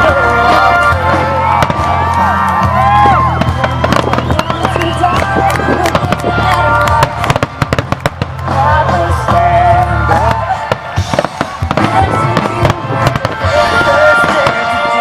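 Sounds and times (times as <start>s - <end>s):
fireworks bangs and crackles: 0.0s - 15.0s
loud music with held notes: 0.0s - 15.0s.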